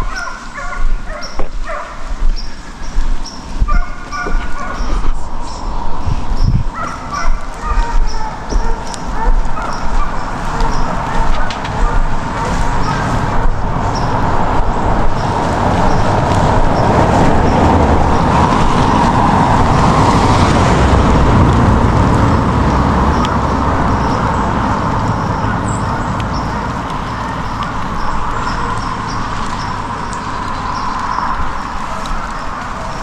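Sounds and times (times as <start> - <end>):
truck engine and tyre rumble: 0.0 - 33.0.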